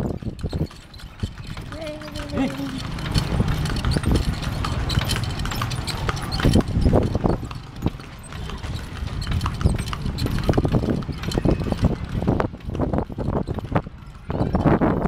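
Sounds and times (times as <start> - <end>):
cart low rumble: 0.0 - 15.0
horse hooves clip-clopping on pavement: 0.0 - 15.0.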